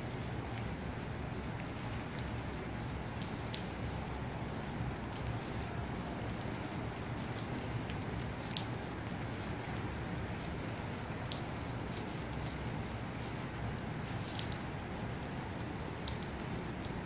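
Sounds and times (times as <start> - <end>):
steady rain falling: 0.0 - 17.0
faint drip ticks: 0.1 - 17.0.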